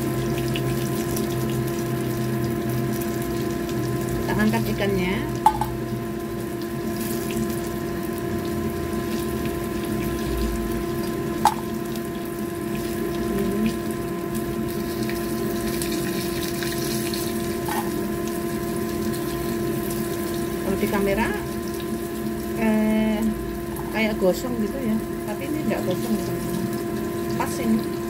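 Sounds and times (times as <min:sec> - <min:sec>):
even hum: 0:00.0 - 0:28.0
fish sizzling in hot oil: 0:00.0 - 0:28.0.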